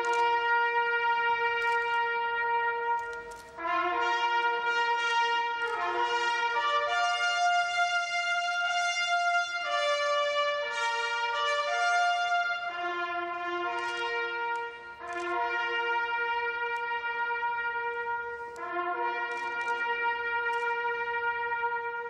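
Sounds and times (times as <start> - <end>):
brass ensemble chords: 0.0 - 22.0.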